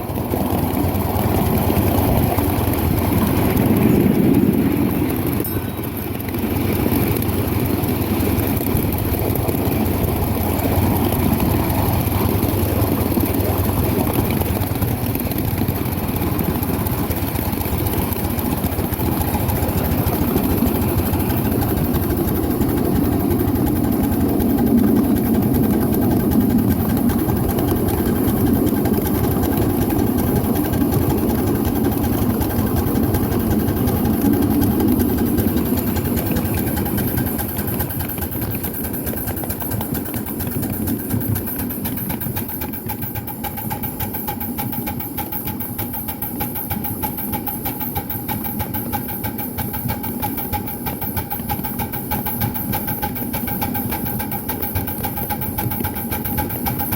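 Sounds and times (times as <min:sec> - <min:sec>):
miniature steam train rumbling: 0:00.0 - 0:56.9.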